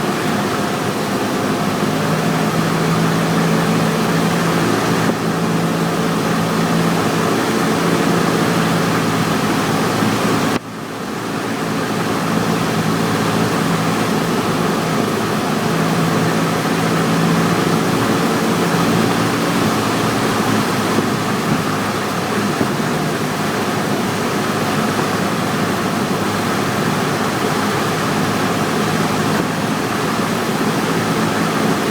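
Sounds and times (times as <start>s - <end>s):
propeller engine droning: 0.0s - 31.9s
rush of airflow: 0.0s - 31.9s.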